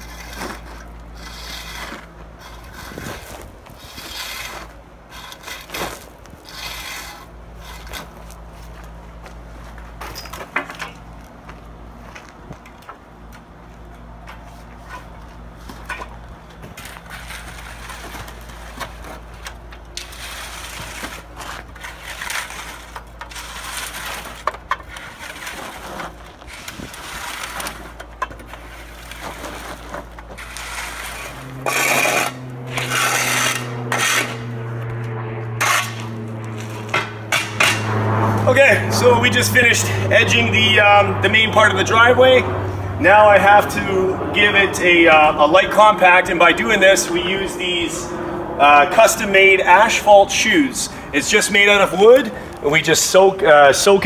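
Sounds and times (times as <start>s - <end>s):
rake scraping through asphalt: 0.0s - 12.4s, 13.8s - 54.0s
high machine drone with clattering: 0.0s - 54.0s
low machine hum: 0.0s - 54.0s.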